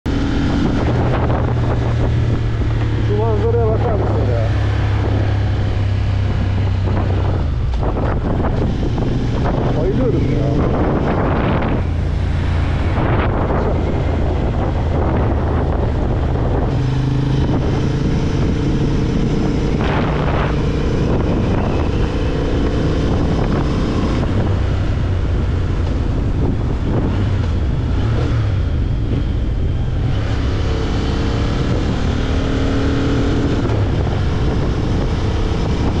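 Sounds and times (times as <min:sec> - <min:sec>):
motorcycle engine revving: 0:00.1 - 0:36.0
wind noise on microphone: 0:00.1 - 0:36.0.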